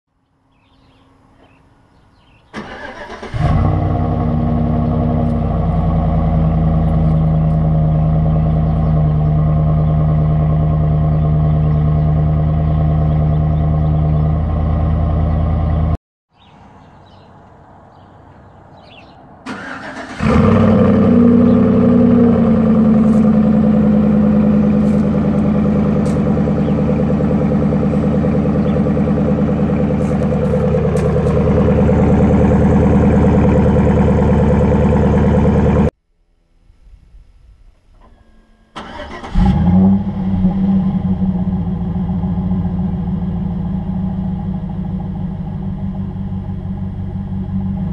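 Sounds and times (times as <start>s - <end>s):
truck engine starting and idling: 0.5s - 16.0s, 18.8s - 36.0s, 37.9s - 47.9s.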